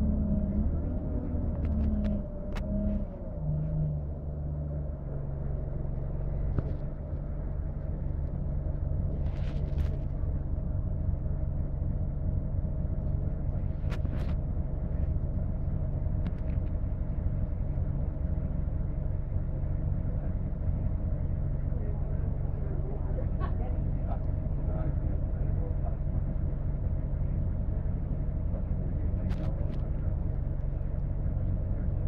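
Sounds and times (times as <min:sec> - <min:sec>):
bus diesel engine drone: 0:00.0 - 0:32.0.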